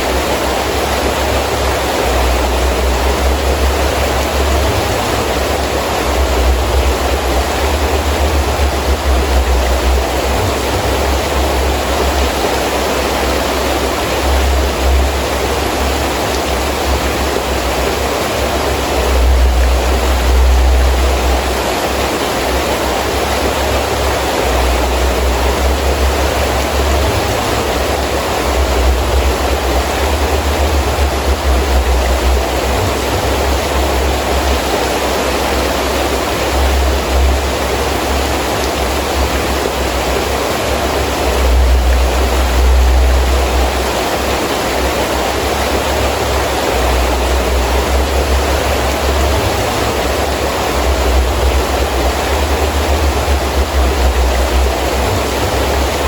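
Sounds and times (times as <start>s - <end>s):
heavy rain falling: 0.0s - 56.0s
wind gusts rumbling: 0.0s - 56.0s.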